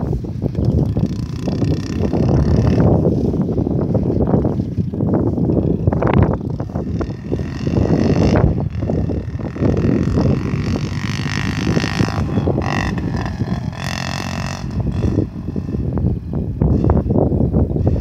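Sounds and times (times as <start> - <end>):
wind buffeting microphone: 0.0 - 18.0
distant motorbike engine whining: 0.6 - 18.0.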